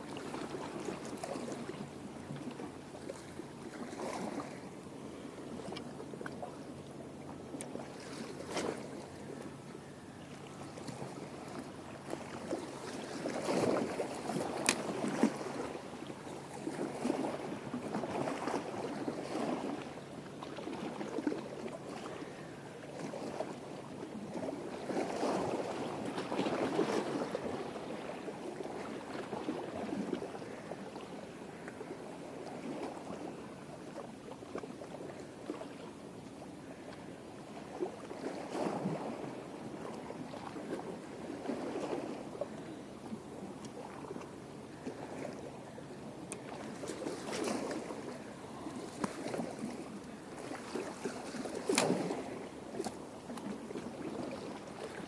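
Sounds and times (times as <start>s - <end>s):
small waves washing on shore: 0.0s - 55.0s.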